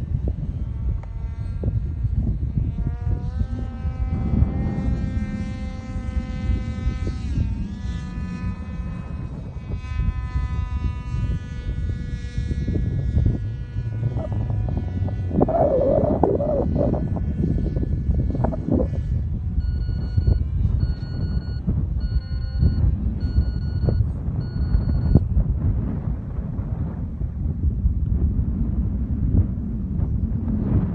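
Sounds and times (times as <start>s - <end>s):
model airplane motor whining: 0.0s - 27.3s
wind on microphone: 0.0s - 30.9s.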